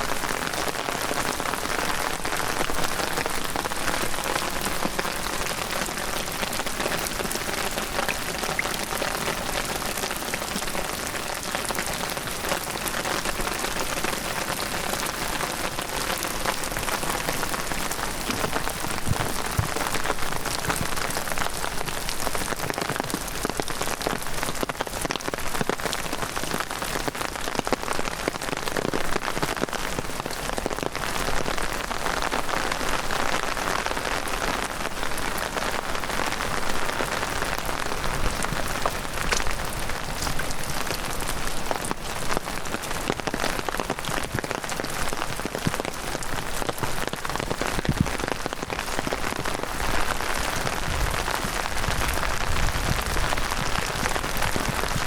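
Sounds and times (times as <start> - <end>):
heavy rain hiss: 0.0 - 55.0
raindrop impacts: 0.0 - 55.0.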